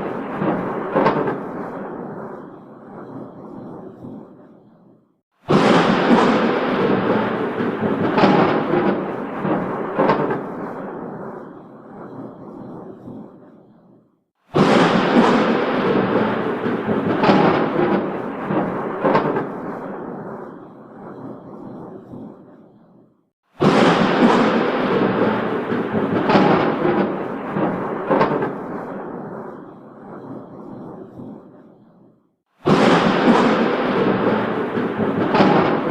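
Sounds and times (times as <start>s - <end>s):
thunder cracking and rumbling: 0.0s - 35.9s.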